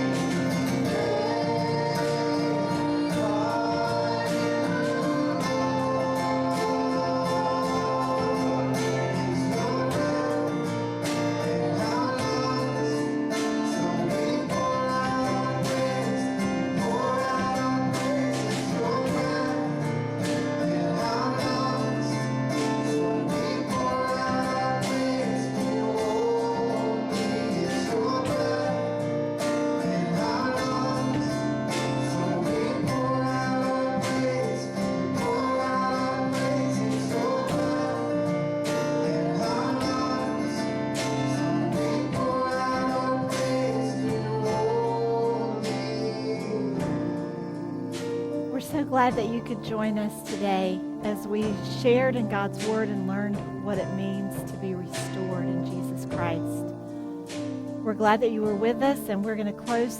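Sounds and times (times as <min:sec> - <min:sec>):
person singing: 0:00.0 - 0:29.0, 0:29.8 - 0:38.3, 0:41.2 - 0:56.8, 0:57.9 - 0:59.9
guitar worship music: 0:00.0 - 0:59.9.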